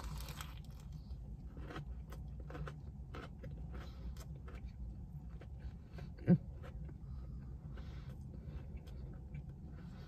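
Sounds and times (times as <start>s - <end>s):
low steady hum: 0.0s - 10.0s
person chewing and crunching: 0.0s - 10.0s.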